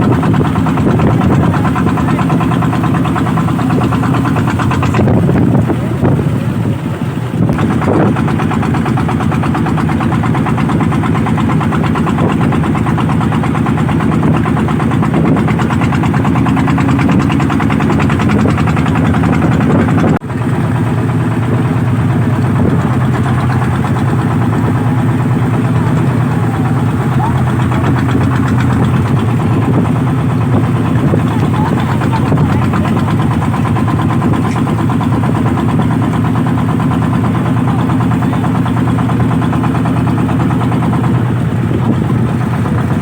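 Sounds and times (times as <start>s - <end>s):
wind on microphone: 0.0s - 20.2s, 21.2s - 43.0s
engine chugging: 0.0s - 43.0s.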